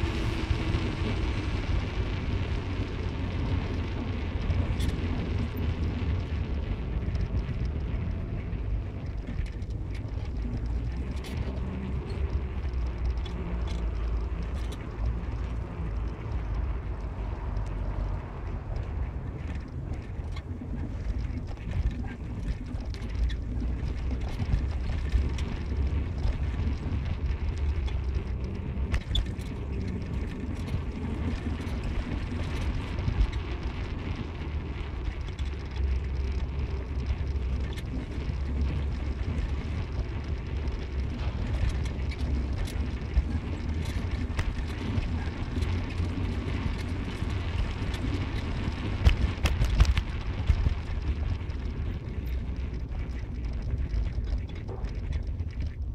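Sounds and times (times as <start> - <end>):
car engine and road noise: 0.0 - 55.9
small knocks and rattles: 7.0 - 55.9.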